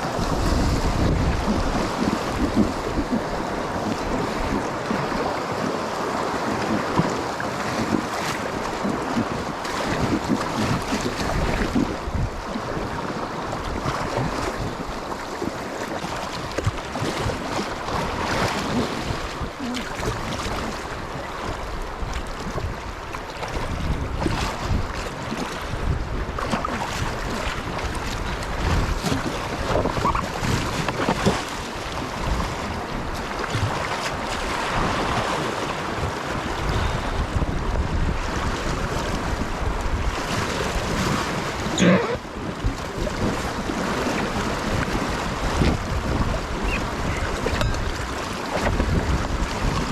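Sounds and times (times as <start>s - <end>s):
rushing stream water: 0.0s - 49.9s
wind buffeting microphone: 0.0s - 49.9s.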